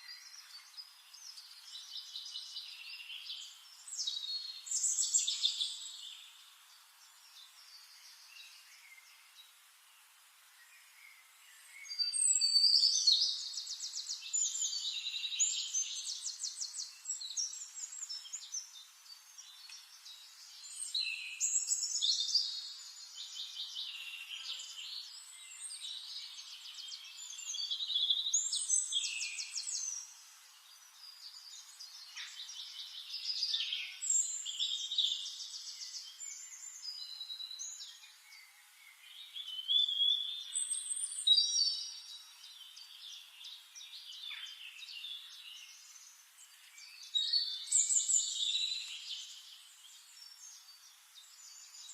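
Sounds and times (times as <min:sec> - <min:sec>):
songbirds singing trilled phrases: 0:00.0 - 0:51.9.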